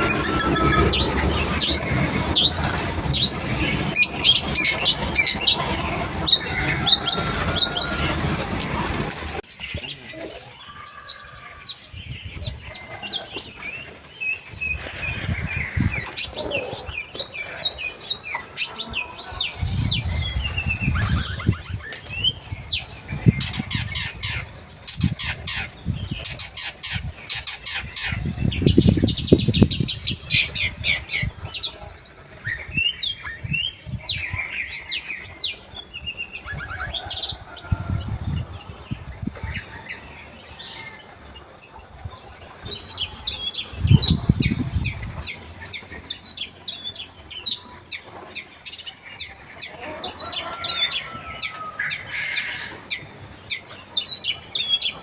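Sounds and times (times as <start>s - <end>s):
bird chattering song: 0.0s - 8.0s, 9.4s - 55.0s.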